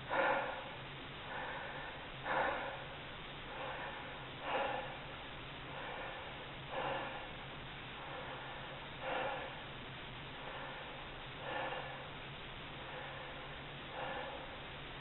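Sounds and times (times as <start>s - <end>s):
person breathing: 0.0s - 15.0s.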